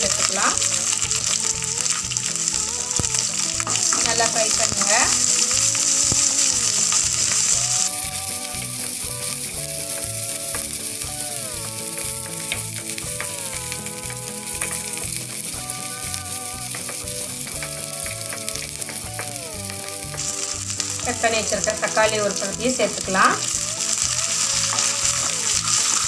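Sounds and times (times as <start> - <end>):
onions sizzling in hot oil: 0.0 - 26.0
wooden spatula stirring: 0.0 - 26.0.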